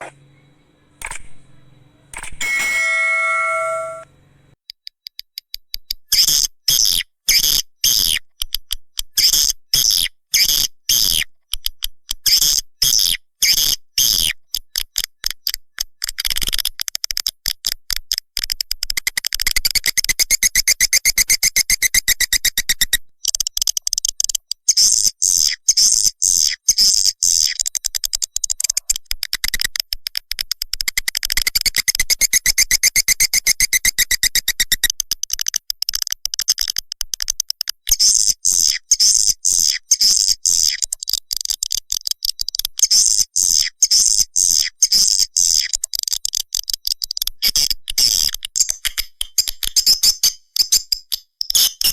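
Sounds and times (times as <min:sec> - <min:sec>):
high clicking bird chirps: 0:00.0 - 0:01.4, 0:02.1 - 0:51.9.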